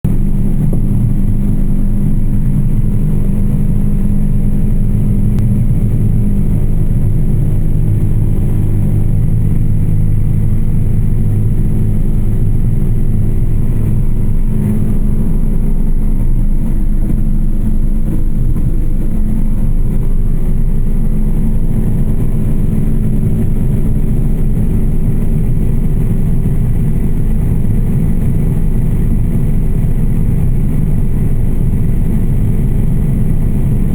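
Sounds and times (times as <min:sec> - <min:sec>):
airplane engine drone: 0:00.0 - 0:33.9.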